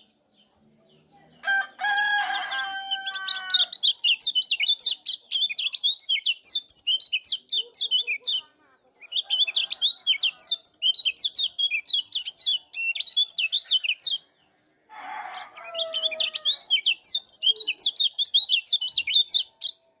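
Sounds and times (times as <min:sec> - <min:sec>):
bird chirping call: 0:02.6 - 0:14.5, 0:15.3 - 0:20.0.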